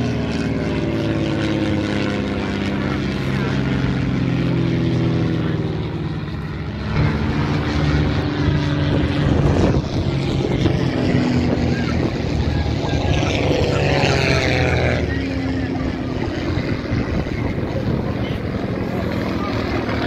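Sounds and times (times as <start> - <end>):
propeller aircraft engine running: 0.0 - 20.0.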